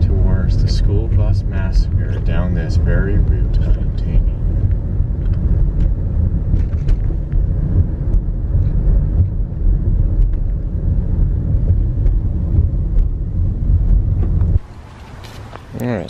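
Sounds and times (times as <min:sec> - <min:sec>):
car engine and tyres rumble: 0:00.0 - 0:16.0.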